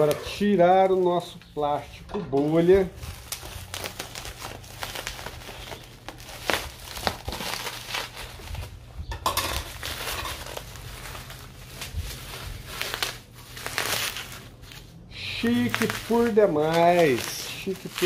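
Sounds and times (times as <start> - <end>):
bubble wrap crinkling: 0.0 - 18.0.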